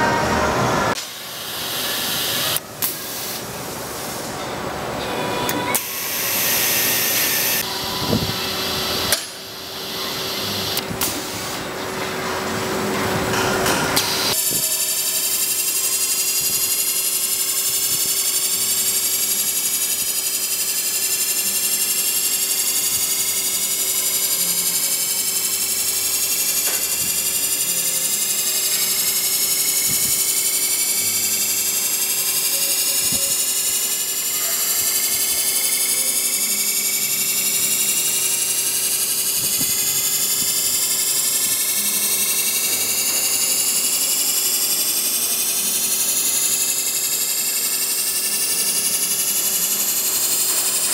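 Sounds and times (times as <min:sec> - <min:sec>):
grinder hum with high whine: 0:00.0 - 0:50.9.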